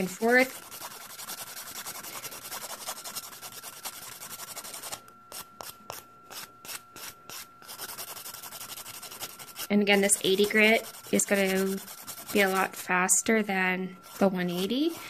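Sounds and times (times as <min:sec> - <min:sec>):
nail file rasping on nail: 0:00.2 - 0:12.7.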